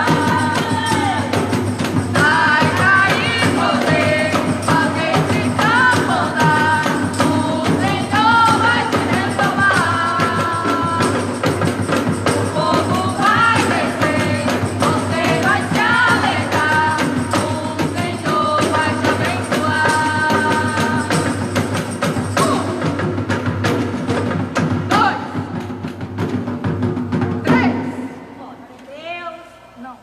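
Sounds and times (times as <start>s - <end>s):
tambourine-like percussion: 0.0s - 28.3s
live gospel band music: 0.0s - 28.9s.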